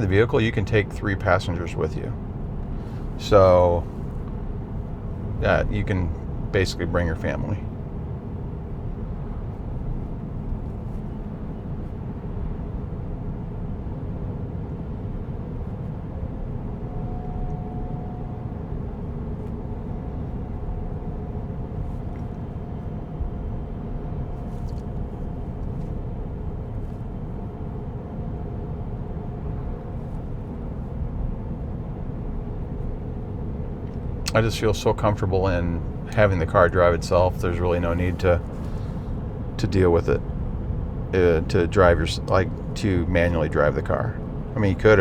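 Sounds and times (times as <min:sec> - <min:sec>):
faint steady whine: 0:00.0 - 0:45.0
road and tyre rumble: 0:00.0 - 0:45.0.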